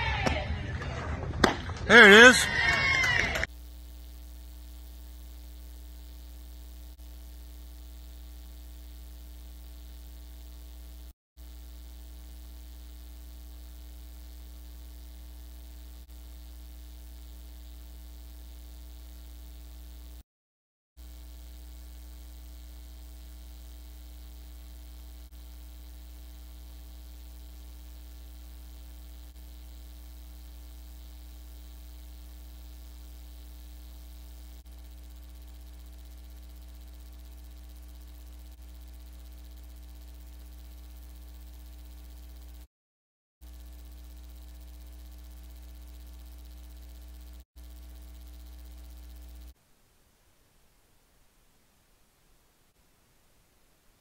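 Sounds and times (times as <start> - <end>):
electrical hum: 0.4 - 20.2, 21.0 - 42.7, 43.4 - 49.6.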